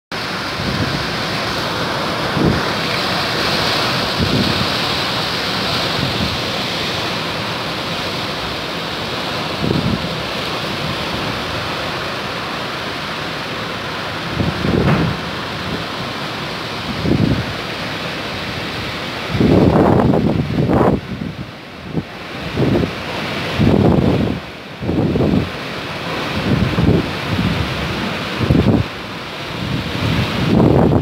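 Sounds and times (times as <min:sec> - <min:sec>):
rain rushing: 0:00.1 - 0:31.0
strong wind: 0:00.1 - 0:31.0
wind gusts thudding on microphone: 0:00.2 - 0:31.0.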